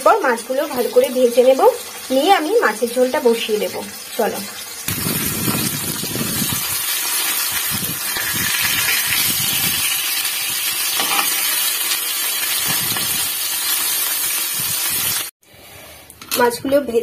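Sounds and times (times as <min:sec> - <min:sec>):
fish sizzling in hot oil: 0:00.0 - 0:15.3.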